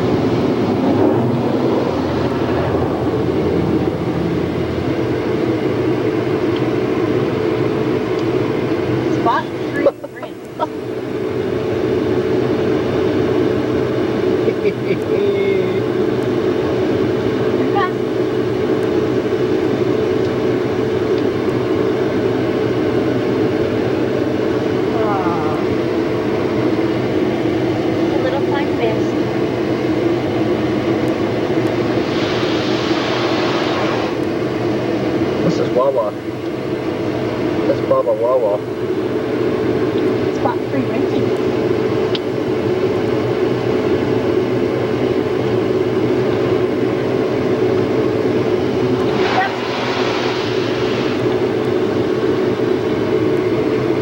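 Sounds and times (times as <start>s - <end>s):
car wash machinery hum: 0.0s - 54.0s.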